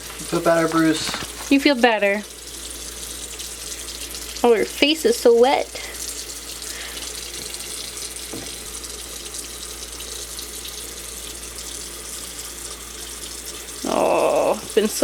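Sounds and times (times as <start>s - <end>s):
faucet running into sink: 0.0s - 15.0s.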